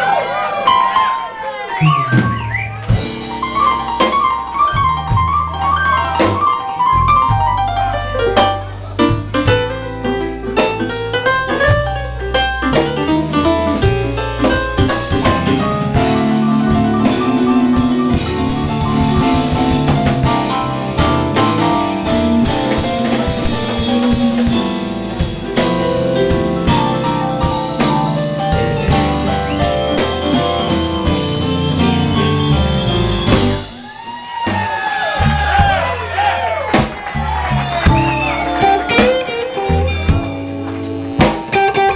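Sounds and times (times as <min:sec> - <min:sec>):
live band playing: 0:00.0 - 0:41.9.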